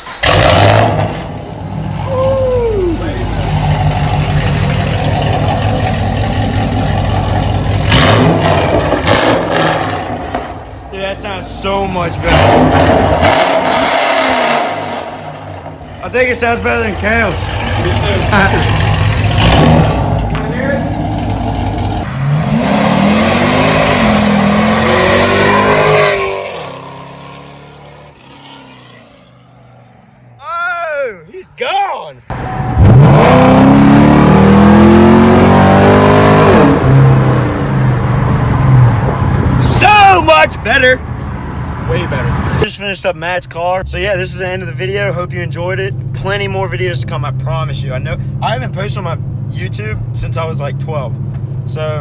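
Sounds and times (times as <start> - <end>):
car engine idling and revving: 0.0 - 30.4, 32.3 - 52.0.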